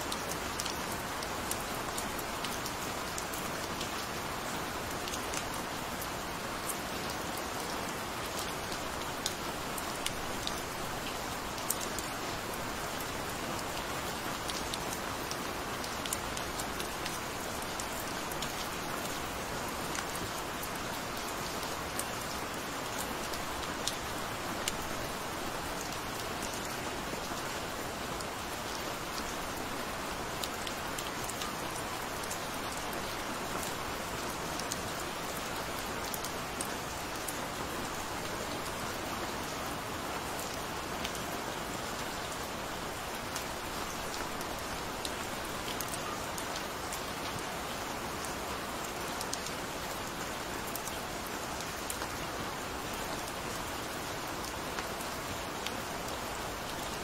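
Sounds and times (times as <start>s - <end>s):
gentle rain hiss: 0.0s - 57.0s.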